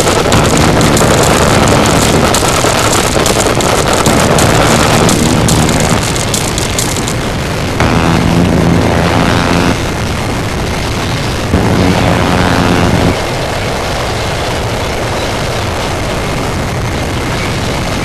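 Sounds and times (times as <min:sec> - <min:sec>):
distorted static and rumble: 0:00.0 - 0:18.0
loud buzzing drone: 0:00.0 - 0:18.0.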